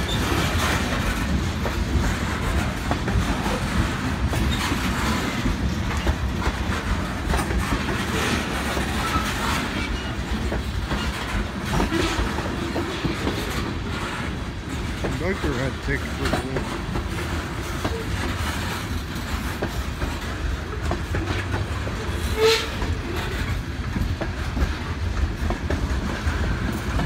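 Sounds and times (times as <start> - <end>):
train rumble: 0.0 - 27.0
wheels clicking over rail joints: 0.0 - 27.0.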